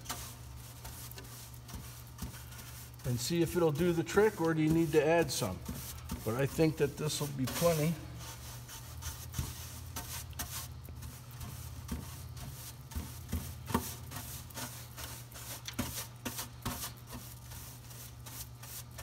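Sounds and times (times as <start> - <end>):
brush sweeping on metal tray: 0.0 - 19.0.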